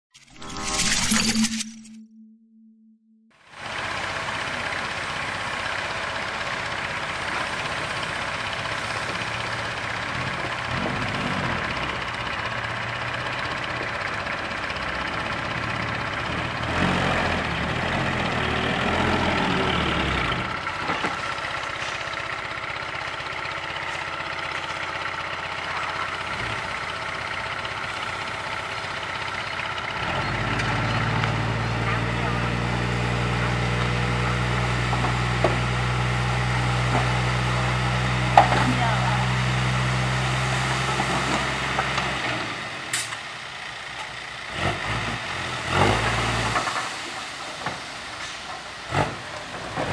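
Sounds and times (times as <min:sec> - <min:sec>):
truck diesel engine running: 0:03.5 - 0:49.9.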